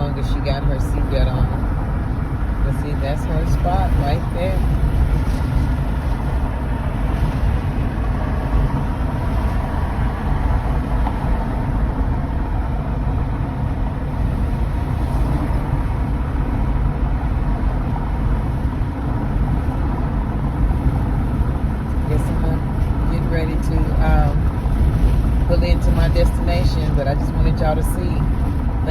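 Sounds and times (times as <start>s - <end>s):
car cabin road and engine rumble: 0.0s - 28.9s.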